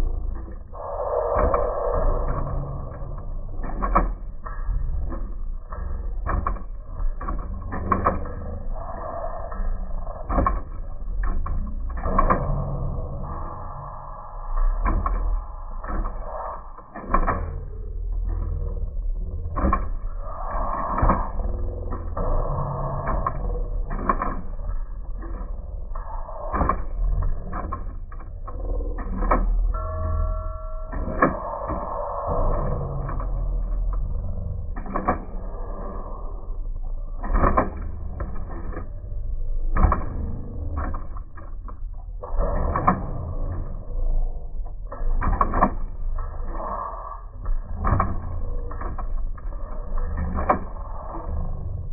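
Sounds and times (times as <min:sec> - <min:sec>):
sharp clicks and knocks: 0:00.0 - 0:51.9.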